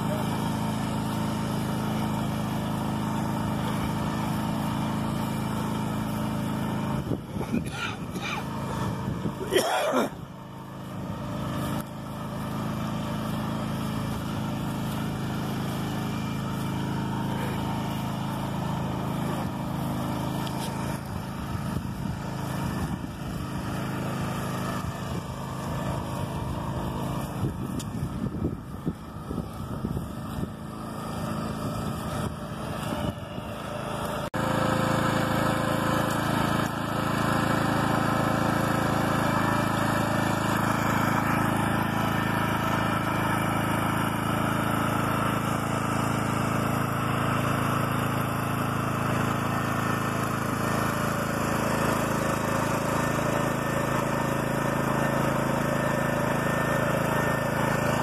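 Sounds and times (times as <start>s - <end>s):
walk-behind tractor engine running: 0.0s - 58.0s.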